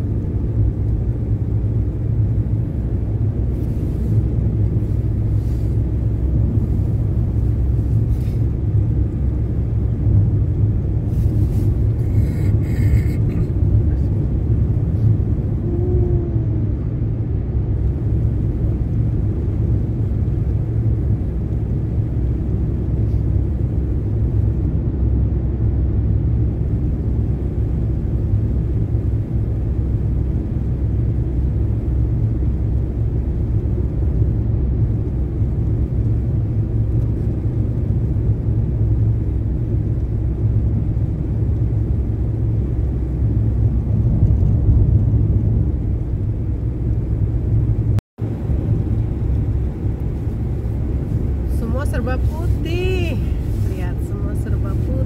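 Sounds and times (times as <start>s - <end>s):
car engine running: 0.0s - 55.0s
tyre and road noise: 0.0s - 55.0s.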